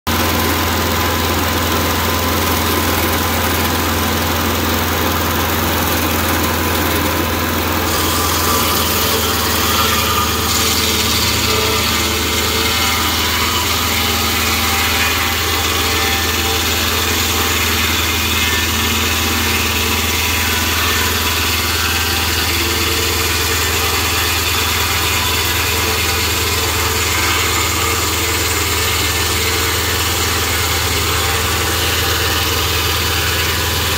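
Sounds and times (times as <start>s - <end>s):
circular blade sawing log: 0.1s - 33.9s
sawmill engine running: 0.1s - 33.9s.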